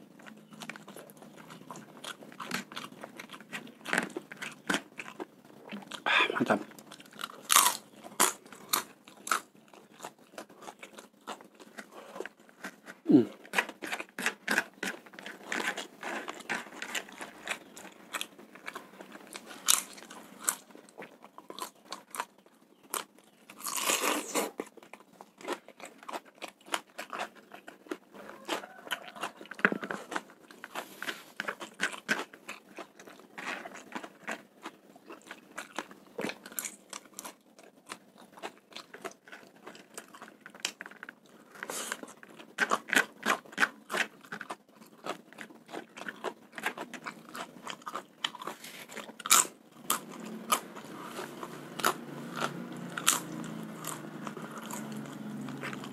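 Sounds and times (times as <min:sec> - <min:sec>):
person chewing and crunching: 0:00.0 - 0:55.9.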